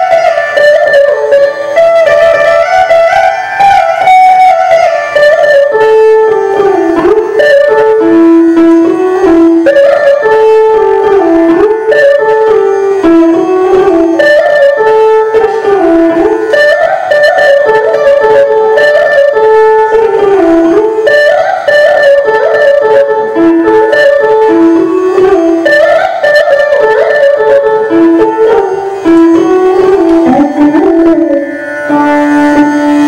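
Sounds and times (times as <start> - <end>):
electric mandolin melody: 0.0 - 33.0.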